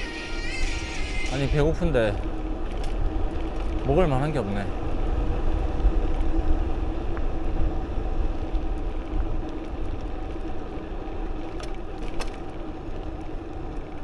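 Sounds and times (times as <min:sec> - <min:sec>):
bicycle road noise: 0:00.0 - 0:14.0.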